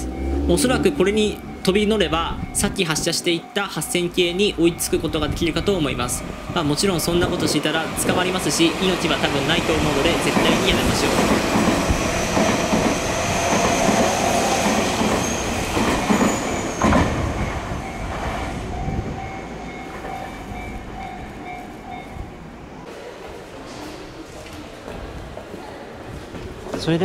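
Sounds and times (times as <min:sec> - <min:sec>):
high train whine: 0:00.0 - 0:25.7.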